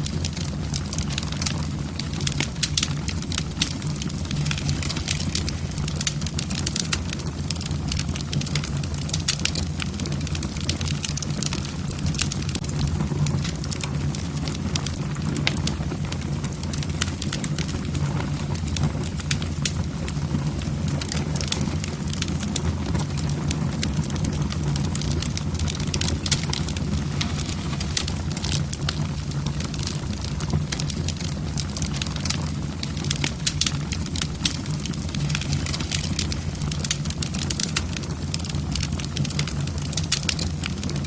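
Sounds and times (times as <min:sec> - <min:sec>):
log fire crackling and popping: 0:00.0 - 0:41.0.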